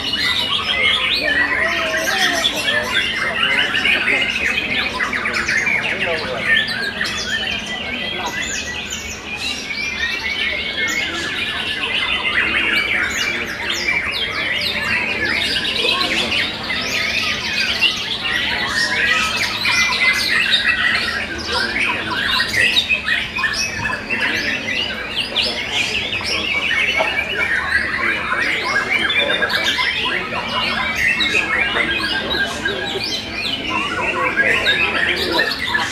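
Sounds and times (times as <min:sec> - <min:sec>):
birds singing whistles and chirps: 0:00.0 - 0:35.9.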